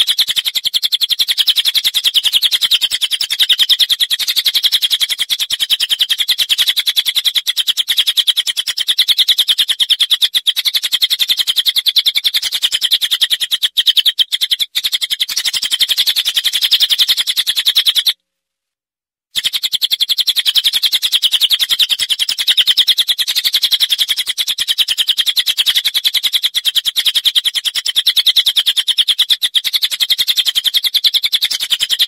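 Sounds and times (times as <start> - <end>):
songbird chirping rapidly: 0.0 - 18.2, 19.4 - 32.0.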